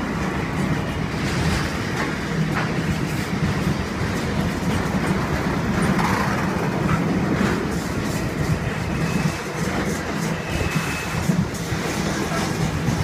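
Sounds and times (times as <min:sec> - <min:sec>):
freight wagons wheels on rail: 0:00.0 - 0:13.0.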